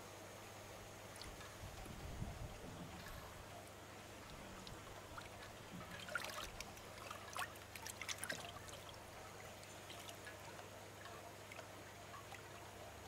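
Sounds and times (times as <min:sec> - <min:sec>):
water trickling and splashing: 0:00.4 - 0:13.0.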